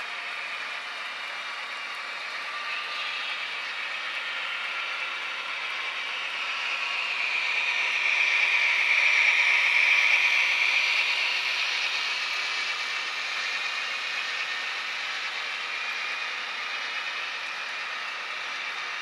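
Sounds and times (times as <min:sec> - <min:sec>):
model train wheels whirring: 0:00.0 - 0:19.0.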